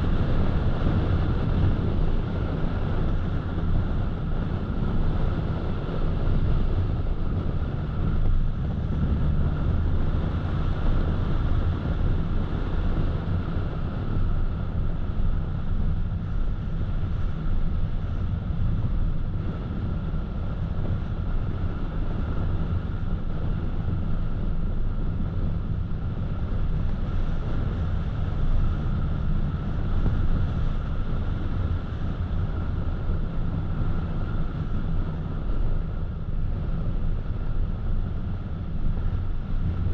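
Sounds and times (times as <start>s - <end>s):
engine drone: 0.0s - 39.9s
tyres rumbling on road: 0.0s - 39.9s.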